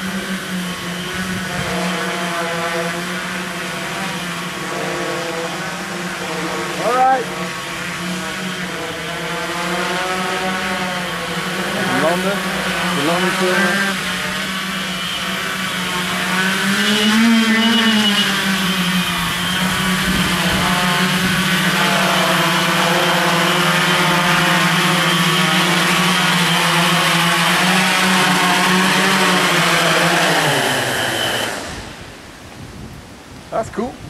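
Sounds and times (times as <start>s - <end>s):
drone motors buzzing: 0.0s - 33.3s.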